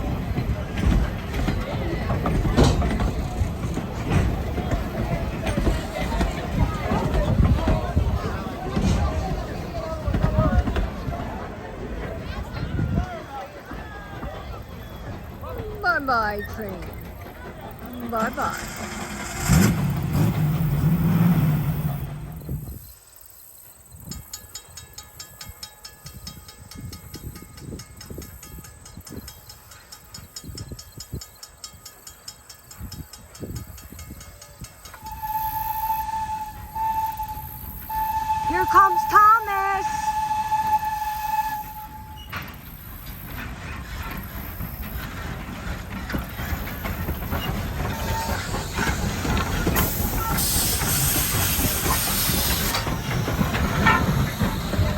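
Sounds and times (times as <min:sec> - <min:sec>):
passenger train rolling past: 0:00.0 - 0:54.9
wheels clicking over rail joints: 0:00.0 - 0:54.9.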